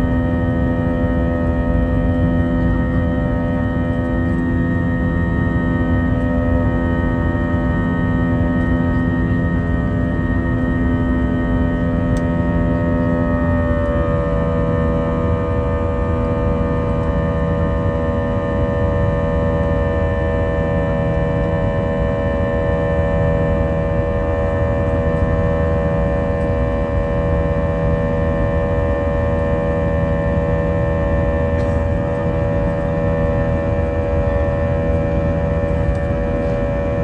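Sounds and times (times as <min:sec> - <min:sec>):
jet engines droning in cabin: 0:00.0 - 0:37.0.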